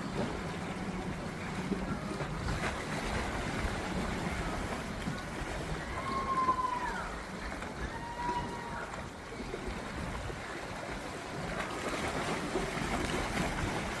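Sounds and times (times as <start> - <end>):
water noise from moving boat: 0.0 - 14.0
wind: 0.0 - 14.0.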